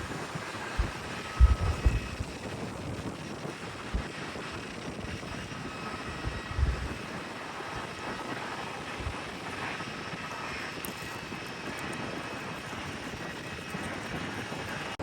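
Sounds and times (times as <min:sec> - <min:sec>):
jet engine rushing and whining: 0:00.0 - 0:15.0
wind buffeting microphone: 0:00.0 - 0:15.0.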